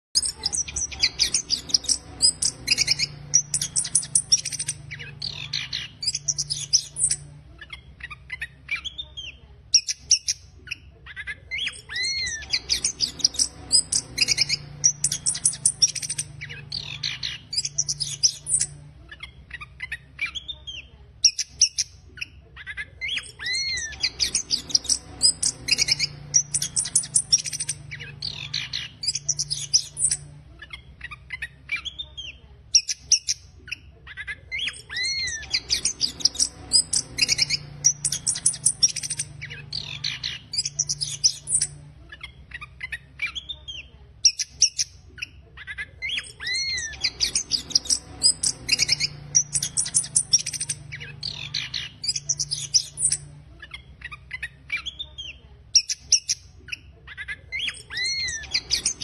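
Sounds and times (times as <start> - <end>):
thrush singing chattering song: 0.0 - 10.4, 11.3 - 22.3, 22.9 - 33.8, 34.4 - 45.3, 45.9 - 55.0, 57.4 - 59.0.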